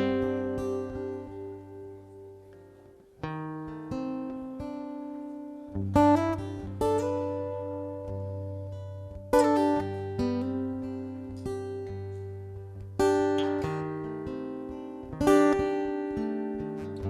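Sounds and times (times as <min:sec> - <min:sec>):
acoustic guitar chords ringing: 0:00.0 - 0:17.0.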